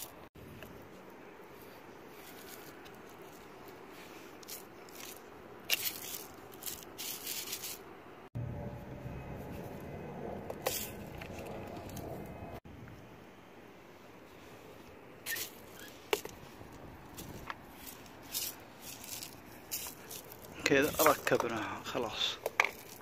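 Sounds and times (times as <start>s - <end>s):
faint steady background noise: 0.0s - 23.0s.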